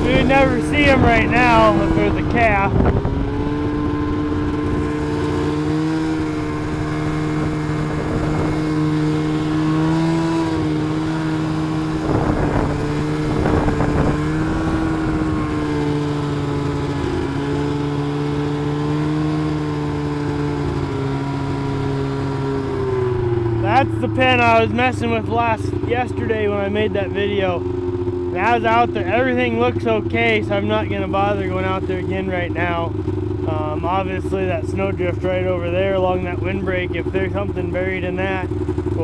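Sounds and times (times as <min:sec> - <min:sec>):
rattling bumps: 0:00.0 - 0:39.0
vehicle engine humming: 0:00.0 - 0:39.0.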